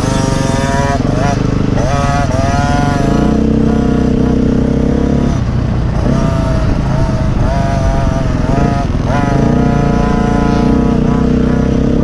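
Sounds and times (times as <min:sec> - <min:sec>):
deeper engine note: 0:00.0 - 0:12.0
dirt bike engines revving: 0:00.0 - 0:12.0.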